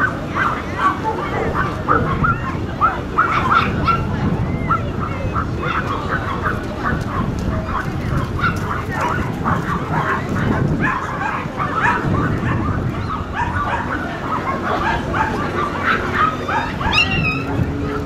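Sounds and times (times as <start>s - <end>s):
dogs barking and yipping: 0.0s - 18.0s.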